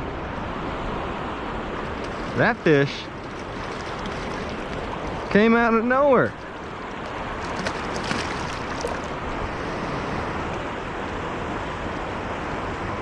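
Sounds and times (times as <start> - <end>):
river water rushing: 0.1 - 13.0.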